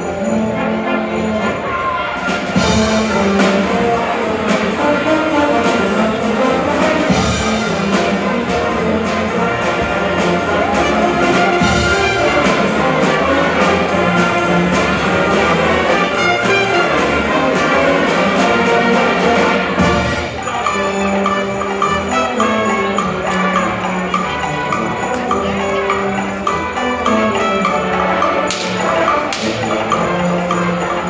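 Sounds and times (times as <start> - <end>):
brass and saxophones playing: 0.0 - 31.0
steady drum beat: 2.3 - 31.0.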